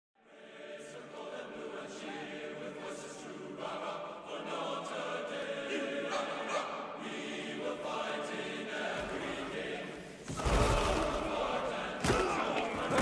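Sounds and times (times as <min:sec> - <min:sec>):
choir singing film score: 0:00.2 - 0:13.0.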